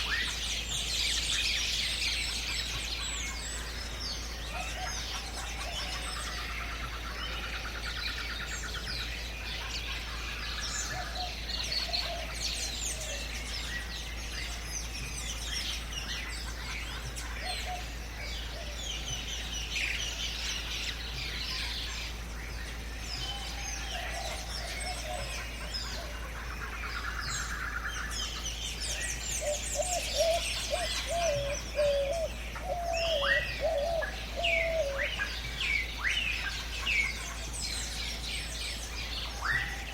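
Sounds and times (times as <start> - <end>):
birds chirping and calling: 0.0 - 39.9
low warbling bird call: 0.0 - 39.9.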